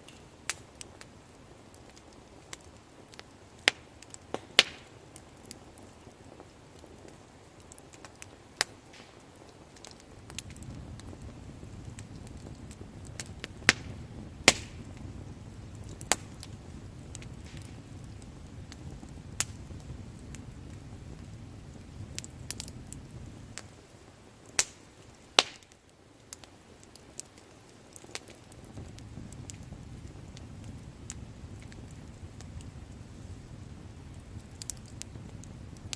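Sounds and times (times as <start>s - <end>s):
bonfire crackling and popping: 0.0s - 35.9s
low rumble of flames: 0.0s - 35.9s.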